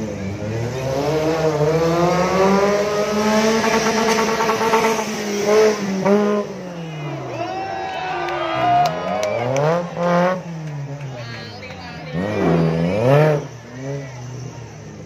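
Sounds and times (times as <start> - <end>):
buggy engine revving: 0.0 - 15.0.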